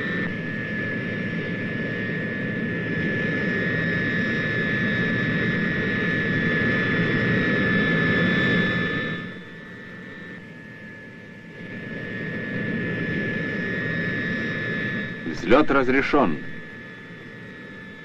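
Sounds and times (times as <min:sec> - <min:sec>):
turboprop engines with whine: 0:00.0 - 0:18.0.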